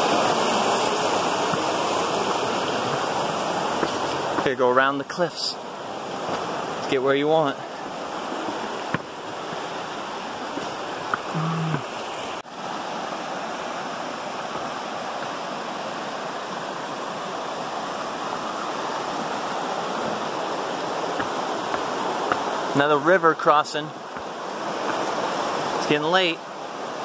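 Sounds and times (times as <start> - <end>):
rushing river water: 0.0 - 27.0.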